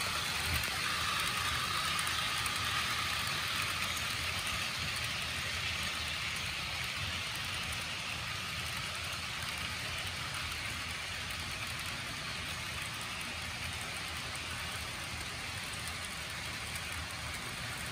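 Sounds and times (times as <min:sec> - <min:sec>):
model train wheels hissing on rails: 0:00.0 - 0:17.9.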